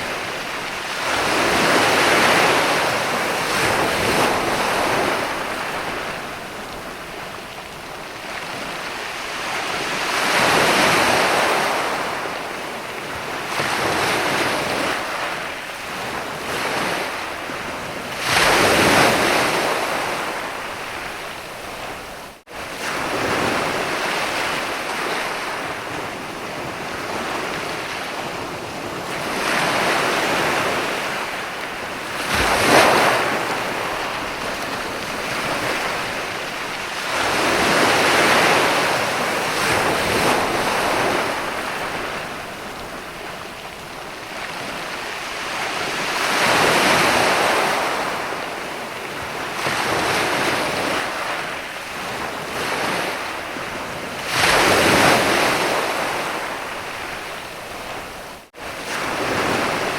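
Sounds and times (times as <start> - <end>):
ocean waves breaking on beach: 0.0 - 59.9
wind buffeting microphone: 0.0 - 59.9.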